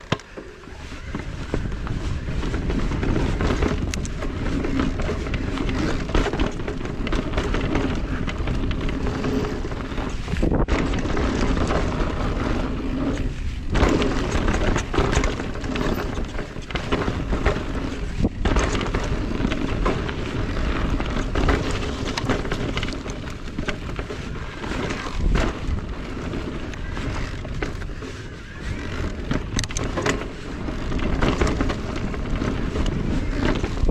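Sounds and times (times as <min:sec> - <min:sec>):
bike knocking and rattling: 0:00.0 - 0:33.9
tyre rumble on rough trail: 0:00.0 - 0:33.9
wind noise: 0:00.0 - 0:33.9.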